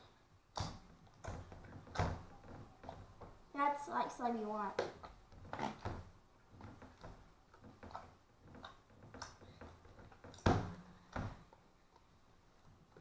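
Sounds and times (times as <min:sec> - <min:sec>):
slime squelching: 0:00.0 - 0:13.0.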